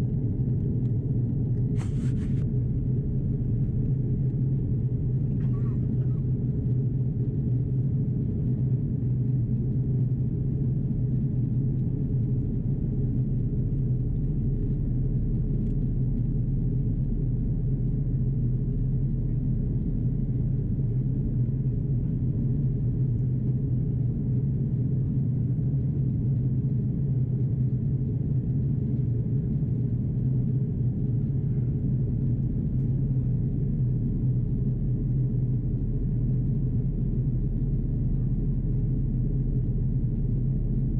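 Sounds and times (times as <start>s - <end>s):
airplane cabin drone: 0.0s - 40.9s
jet engines and airflow rumble: 0.0s - 40.9s.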